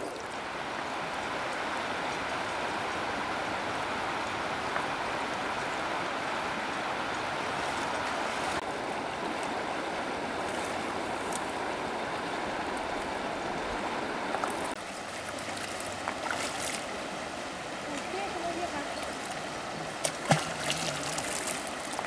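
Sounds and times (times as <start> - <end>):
faint water splashing: 0.0 - 22.0
river water rushing over stones: 0.0 - 22.0.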